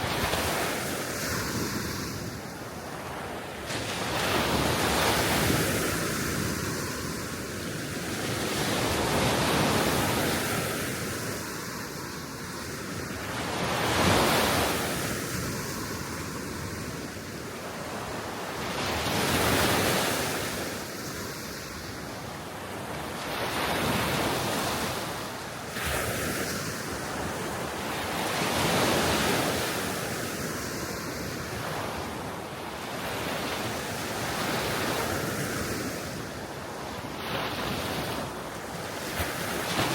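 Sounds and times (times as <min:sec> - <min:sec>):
small waves washing ashore: 0:00.0 - 0:39.9.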